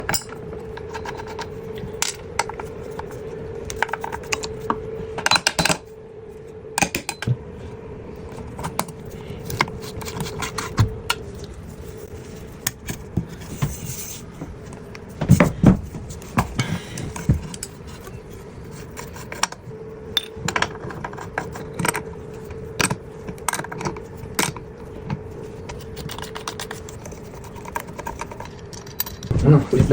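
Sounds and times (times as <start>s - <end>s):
steady hum: 0.0s - 29.9s.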